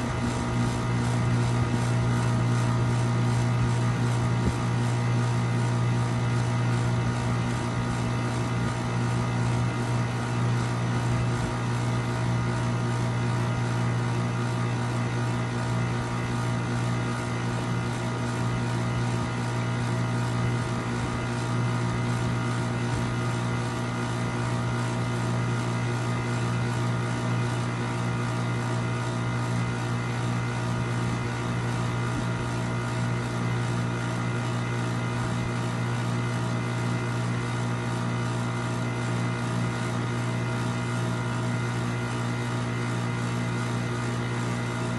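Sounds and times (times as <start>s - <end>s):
mechanical drone with low hum: 0.0s - 44.9s.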